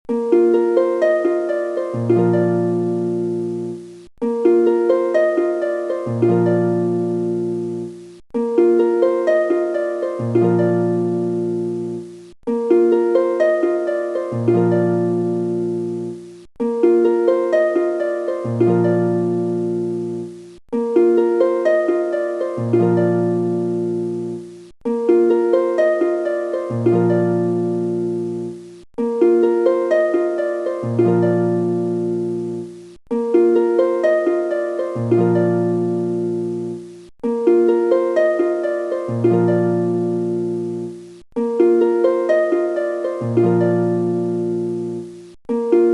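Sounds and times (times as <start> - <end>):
plucked-string melody: 0.0 - 45.9.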